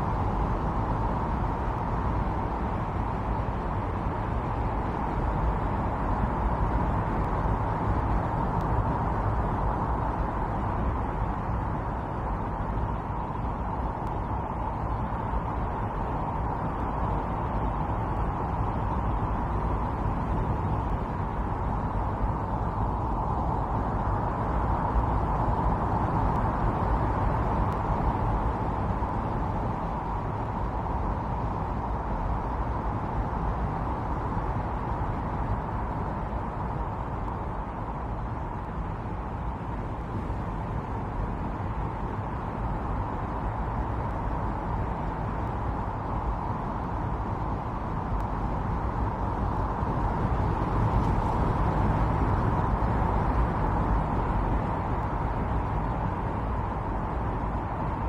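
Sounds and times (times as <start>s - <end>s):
strong snowstorm wind blowing: 0.0s - 58.0s.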